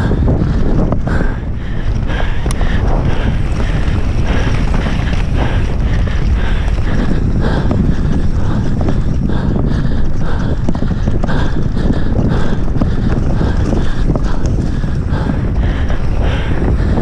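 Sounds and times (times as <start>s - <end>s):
mountain bike rattling on dirt trail: 0.0s - 17.0s
wind buffeting microphone: 0.0s - 17.0s.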